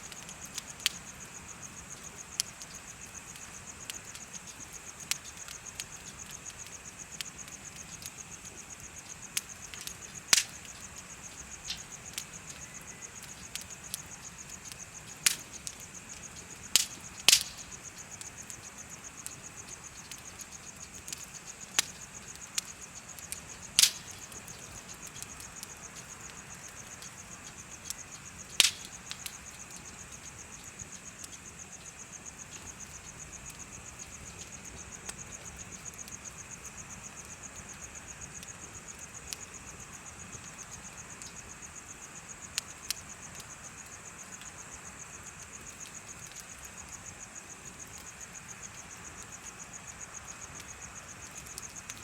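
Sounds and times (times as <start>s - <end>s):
bonfire wood popping: 0.0s - 52.0s
insects trilling: 0.0s - 52.0s.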